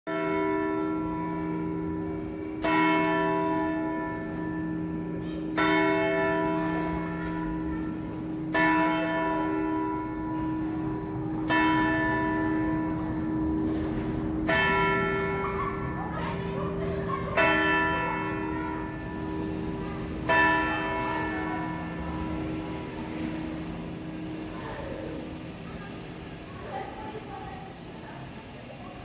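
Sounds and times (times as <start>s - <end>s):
clock tower bell striking: 0.1s - 25.7s.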